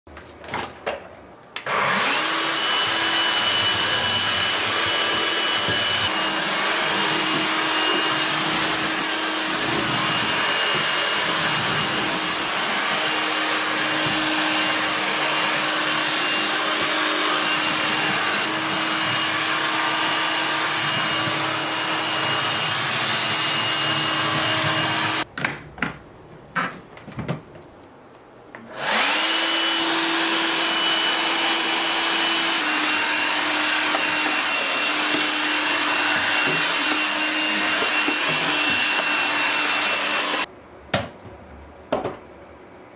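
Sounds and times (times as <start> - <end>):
vacuum cleaner motor whine: 1.6 - 25.3, 28.6 - 40.5.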